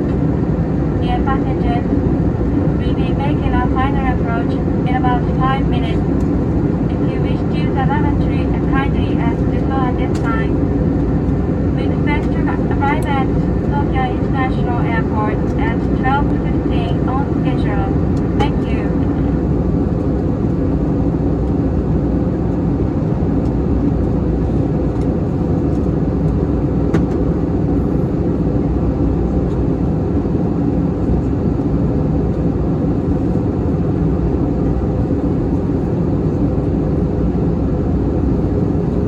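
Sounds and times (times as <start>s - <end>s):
airplane cabin engine roar: 0.0s - 39.0s
faint hum: 0.0s - 39.0s.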